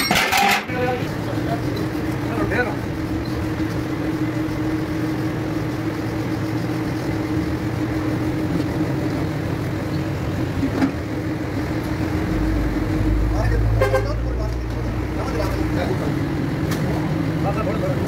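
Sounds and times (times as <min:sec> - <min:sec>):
low mechanical hum: 0:00.0 - 0:17.4.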